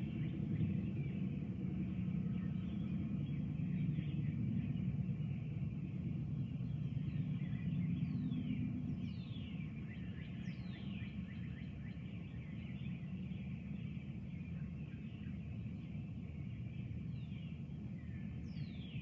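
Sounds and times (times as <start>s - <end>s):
low continuous rumble: 0.0s - 19.0s
songbirds singing: 0.0s - 19.0s.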